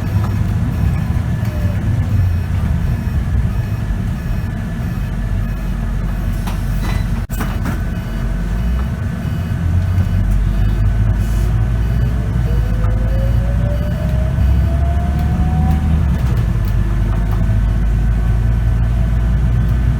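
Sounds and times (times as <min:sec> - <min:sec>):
transmission whine rising: 0:00.0 - 0:07.2, 0:07.8 - 0:16.9
bus diesel engine rumble: 0:00.0 - 0:19.9.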